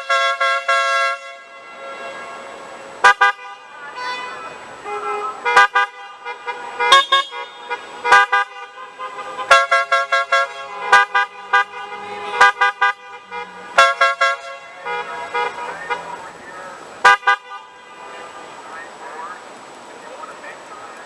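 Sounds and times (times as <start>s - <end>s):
car horns tooting: 0.0s - 19.4s.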